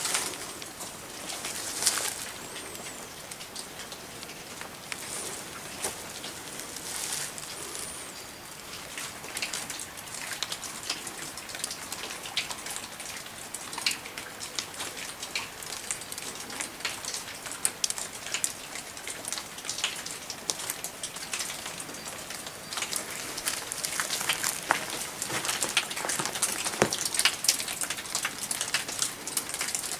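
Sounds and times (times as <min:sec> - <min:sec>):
light rain pattering on leaves: 0:00.0 - 0:29.9.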